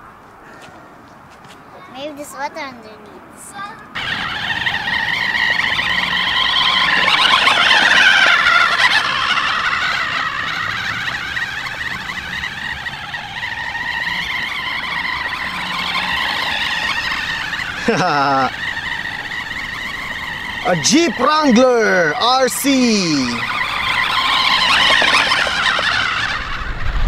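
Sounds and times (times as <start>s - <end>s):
toy car electric motor whining: 3.9s - 27.0s.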